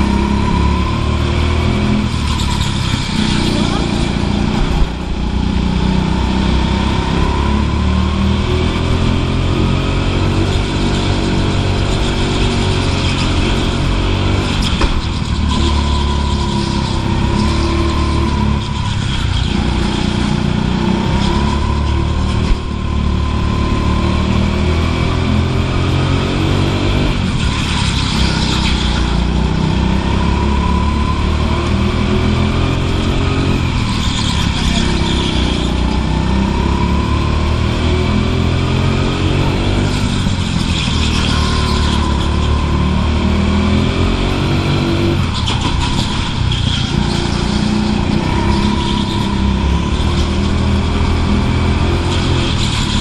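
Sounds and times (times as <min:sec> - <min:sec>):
go-kart engine revving: 0:00.0 - 0:53.0.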